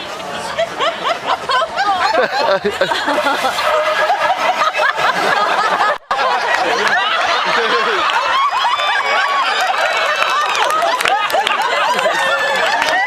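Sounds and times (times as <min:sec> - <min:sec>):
many voices overlapping: 0:00.0 - 0:13.0
audience laughing: 0:00.2 - 0:13.0.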